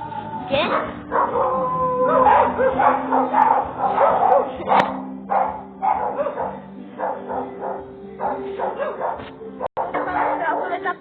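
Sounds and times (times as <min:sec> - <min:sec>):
dog barking: 0:00.6 - 0:10.8.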